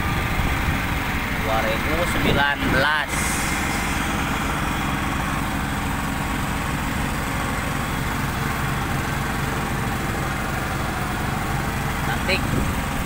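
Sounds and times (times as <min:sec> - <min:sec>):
excavator diesel engine idling: 0:00.0 - 0:13.0.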